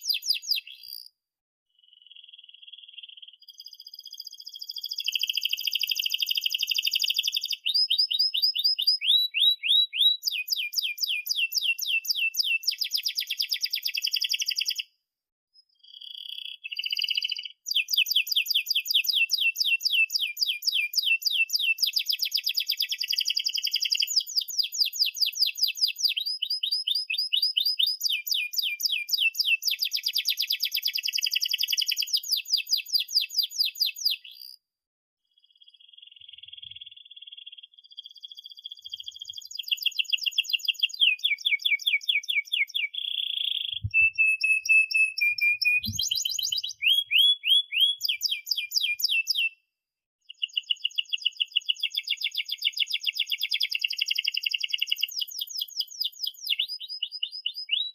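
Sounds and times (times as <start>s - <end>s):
canary singing trills: 0.0s - 1.1s, 1.8s - 14.9s, 15.6s - 34.6s, 35.4s - 49.6s, 50.2s - 57.9s.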